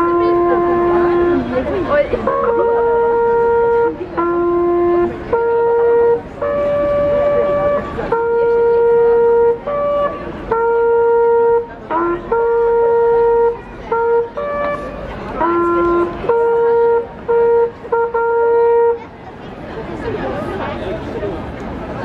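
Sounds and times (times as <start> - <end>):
wind instrument playing slow tune: 0.0 - 19.1.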